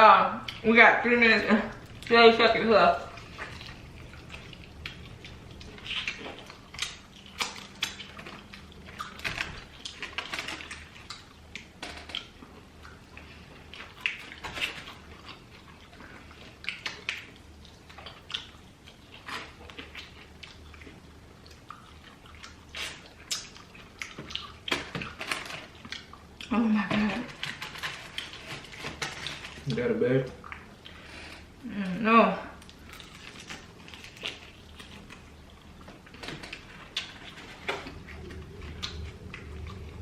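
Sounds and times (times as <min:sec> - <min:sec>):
wet chewing and smacking: 0:00.4 - 0:00.8, 0:01.6 - 0:31.6, 0:32.6 - 0:40.0.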